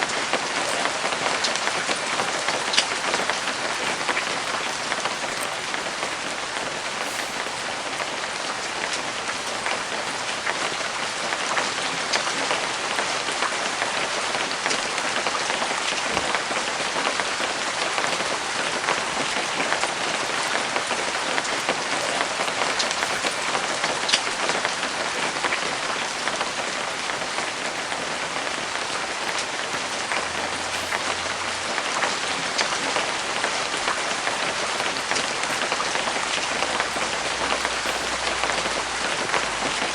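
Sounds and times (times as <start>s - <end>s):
light rain falling: 0.0s - 39.9s
raindrop ticks: 0.0s - 39.9s.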